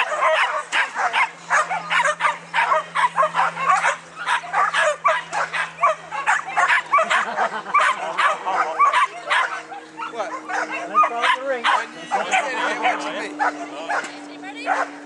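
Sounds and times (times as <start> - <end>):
dogs barking excitedly: 0.0 - 15.0.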